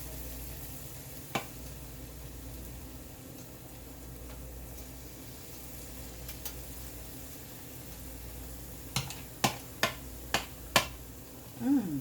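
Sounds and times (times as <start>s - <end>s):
hot oil sizzling: 0.0s - 11.6s.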